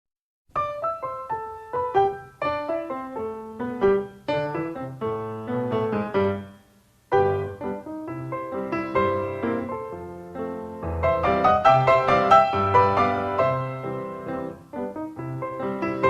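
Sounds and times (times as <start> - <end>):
piano music: 0.5 - 16.0.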